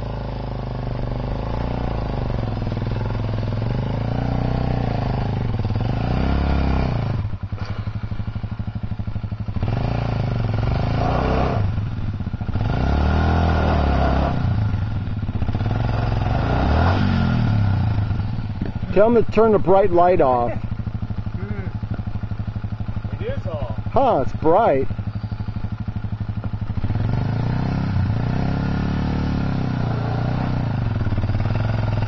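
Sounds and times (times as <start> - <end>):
motorcycle engine revving: 0.0 - 32.0
slow pulsing exhaust beat: 0.0 - 32.0.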